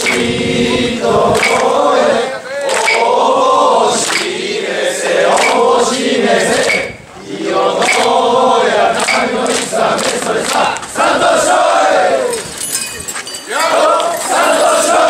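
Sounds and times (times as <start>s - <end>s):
men chanting in unison: 0.0s - 12.5s, 13.5s - 15.0s.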